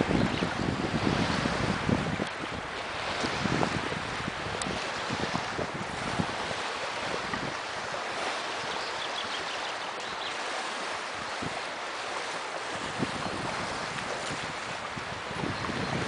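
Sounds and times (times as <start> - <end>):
choppy river water rushing: 0.0 - 16.0
wind buffeting microphone: 0.0 - 16.0.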